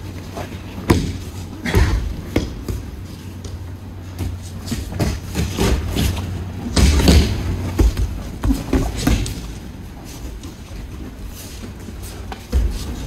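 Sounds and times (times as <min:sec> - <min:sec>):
bodies thudding on mats: 0:00.2 - 0:13.0.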